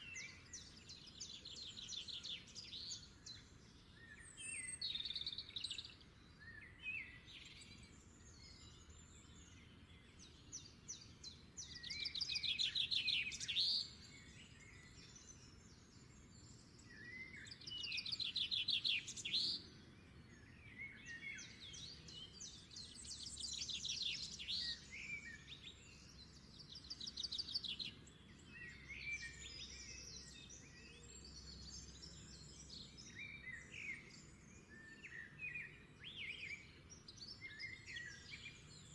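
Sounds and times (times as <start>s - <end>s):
bird chirps: 0.0s - 38.9s.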